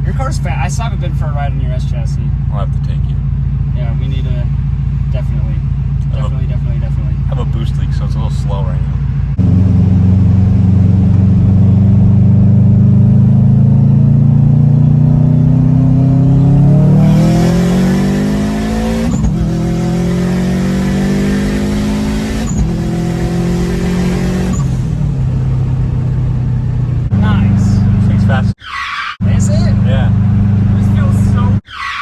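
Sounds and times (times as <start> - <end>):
car engine accelerating hard: 0.0 - 28.6, 29.2 - 31.6.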